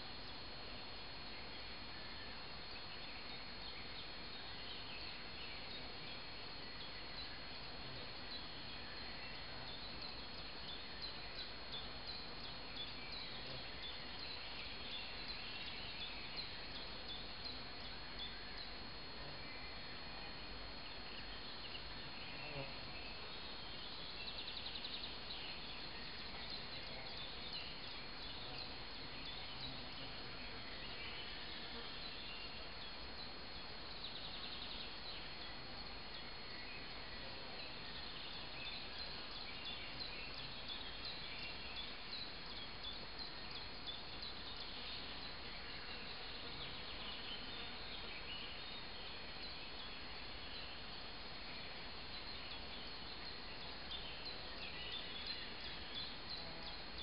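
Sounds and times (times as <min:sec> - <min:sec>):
insects buzzing: 0:00.0 - 0:57.0
steady hiss: 0:00.0 - 0:57.0
thin steady high tone: 0:00.0 - 0:57.0.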